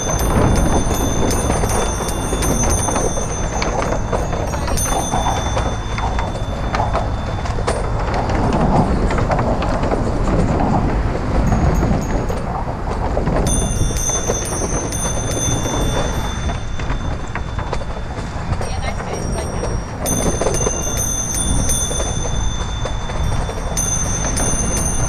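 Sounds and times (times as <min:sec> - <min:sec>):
bicycle tyres on wooden planks: 0:00.0 - 0:25.0
wind rumble on microphone: 0:00.0 - 0:25.0.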